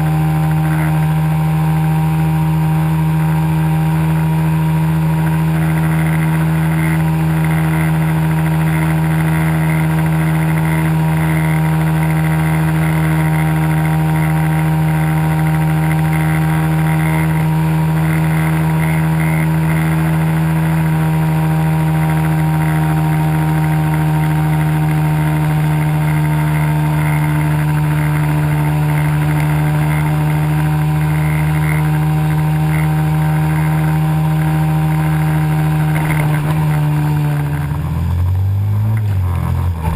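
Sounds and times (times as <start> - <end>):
pit bike engine running: 0.0 - 39.9.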